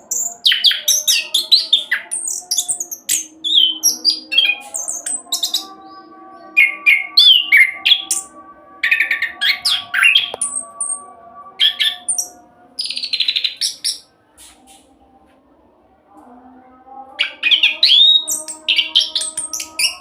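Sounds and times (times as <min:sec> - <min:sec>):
thrush singing trills: 0:00.0 - 0:15.1, 0:15.9 - 0:20.0.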